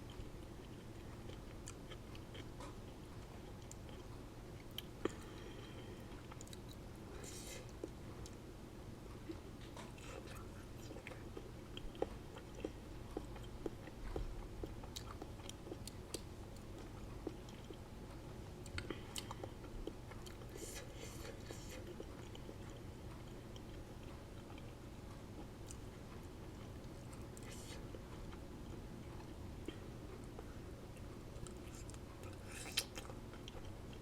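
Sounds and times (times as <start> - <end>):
person chewing food: 0.0 - 8.5, 9.1 - 34.0.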